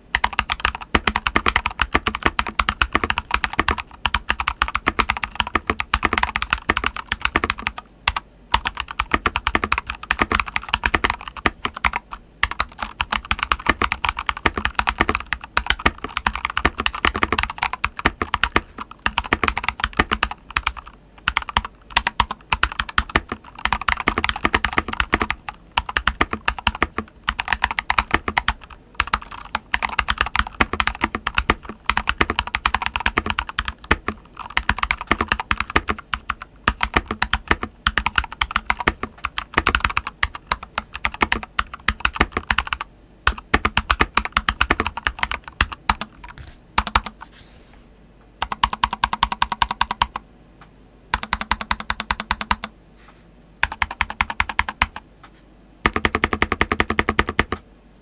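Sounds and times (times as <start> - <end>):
mechanical keyboard typing: 0.0 - 47.2, 48.4 - 50.2, 51.1 - 52.7, 53.6 - 55.0, 55.8 - 57.6.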